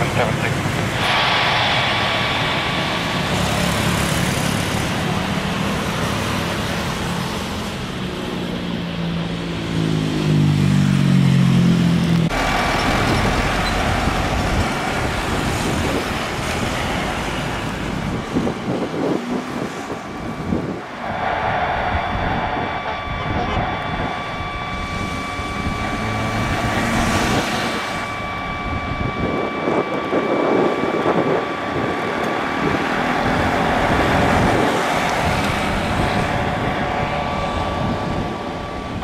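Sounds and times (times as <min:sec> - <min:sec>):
jet engines roaring at takeoff: 0:00.0 - 0:39.0
jet engines rumbling while taxiing: 0:00.0 - 0:39.0.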